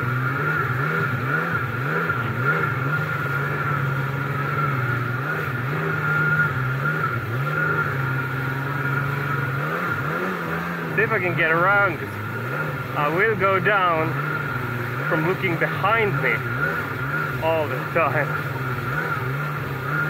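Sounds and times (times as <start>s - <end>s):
jet ski engine revving: 0.0s - 20.0s.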